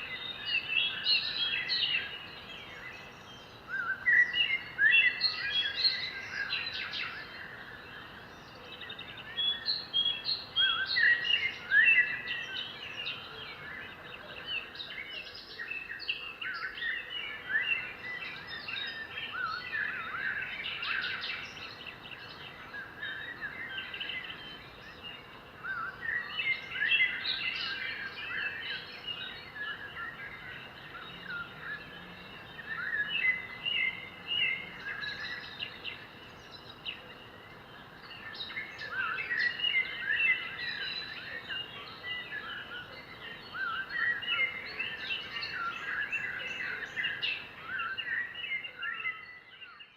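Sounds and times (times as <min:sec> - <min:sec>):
birds chirping and singing: 0:00.0 - 0:49.9
faint outdoor background: 0:00.0 - 0:49.9.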